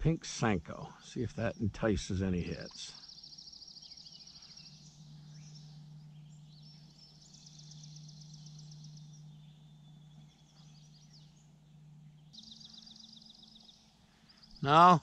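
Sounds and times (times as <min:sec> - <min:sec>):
songbird trills: 0:00.0 - 0:15.0
steady low hum: 0:00.0 - 0:15.0.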